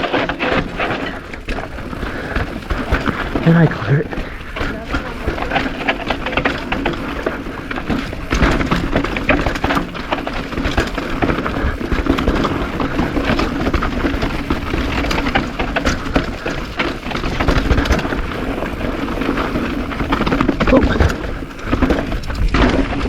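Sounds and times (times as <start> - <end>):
bike knocks and rattles: 0.0 - 23.0
bike tyres crunching on dirt: 0.0 - 23.0.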